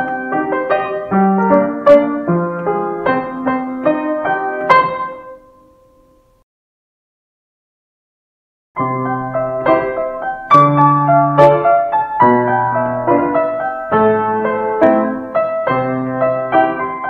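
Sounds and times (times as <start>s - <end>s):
solo piano melody over chords: 0.0s - 6.4s, 8.8s - 17.0s.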